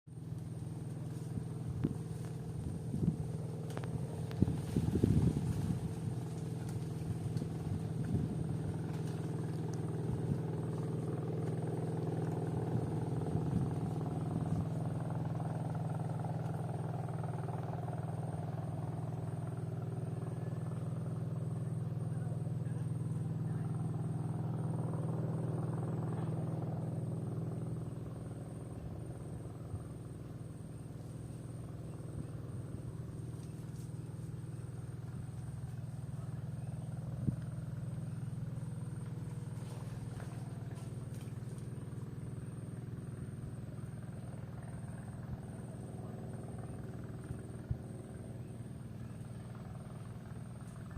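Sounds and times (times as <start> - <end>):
motor humming: 0.1 - 50.9.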